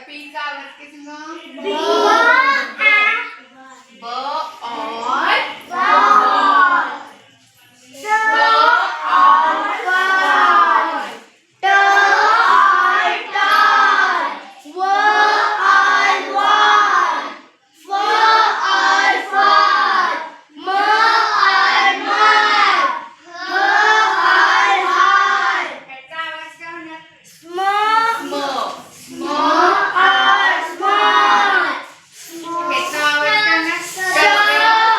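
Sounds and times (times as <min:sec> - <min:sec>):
children chanting in unison: 0:01.6 - 0:03.3, 0:04.6 - 0:07.2, 0:07.9 - 0:25.9, 0:27.4 - 0:34.9.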